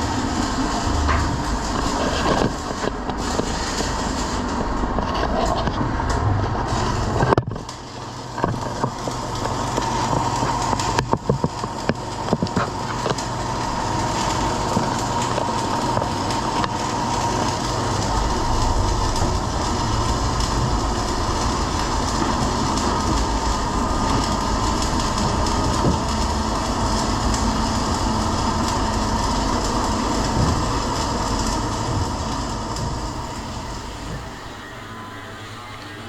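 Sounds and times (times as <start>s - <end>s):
machine rattle and hiss on steel: 0.0s - 36.0s.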